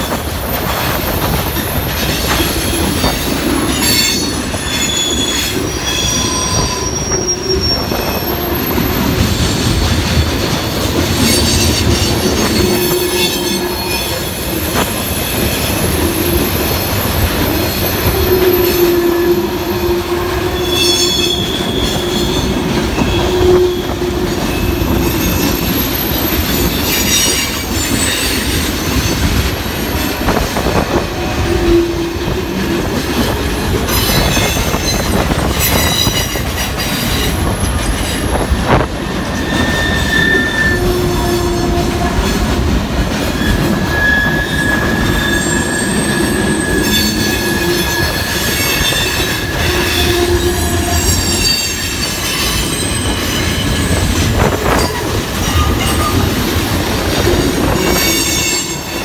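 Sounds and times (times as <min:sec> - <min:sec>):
train wheels rumbling on rail: 0:00.0 - 0:59.0
high wheel squeals: 0:02.3 - 0:29.2, 0:33.9 - 0:42.3, 0:43.3 - 0:59.0.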